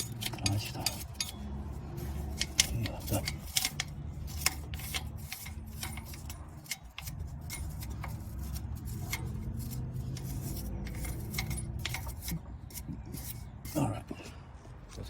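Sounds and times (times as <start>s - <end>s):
brush scrubbing metal: 0.0s - 14.1s.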